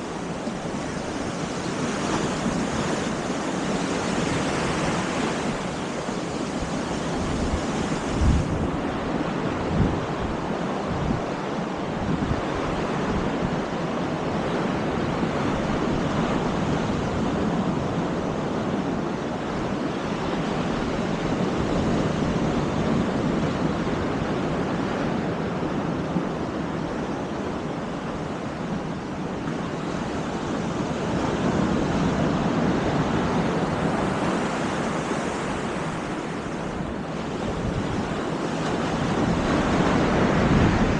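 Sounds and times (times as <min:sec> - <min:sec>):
surf washing onto beach: 0:00.0 - 0:40.9
wind buffeting microphone: 0:00.0 - 0:40.9.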